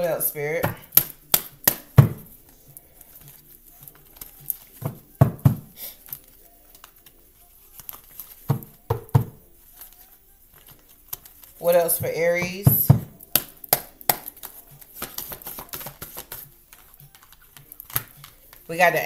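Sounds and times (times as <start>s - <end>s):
cards being shuffled: 0.7s - 19.0s.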